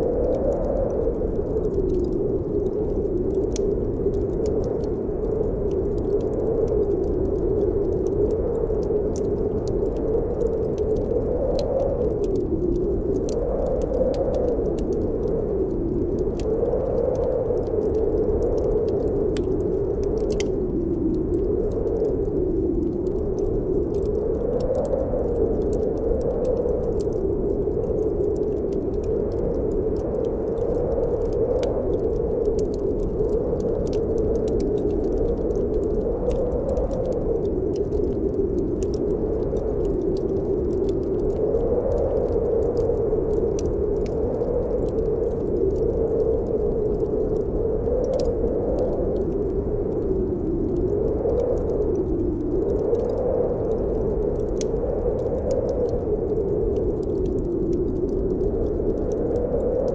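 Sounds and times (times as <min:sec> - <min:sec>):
blizzard wind howling: 0:00.0 - 0:59.9.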